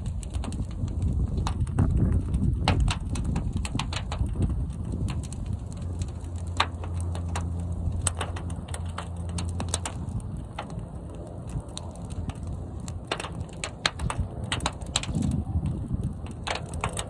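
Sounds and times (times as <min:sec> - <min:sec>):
fire crackles and pops: 0:00.0 - 0:17.0
fire rumbling in kiln: 0:00.0 - 0:17.0.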